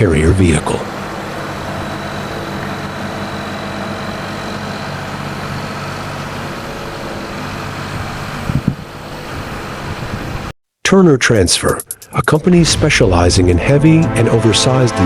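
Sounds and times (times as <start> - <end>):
truck engine humming: 0.0 - 10.5, 11.2 - 15.0.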